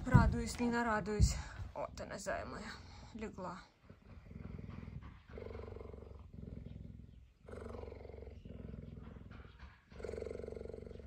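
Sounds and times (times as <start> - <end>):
cheetah purring: 0.0 - 11.0.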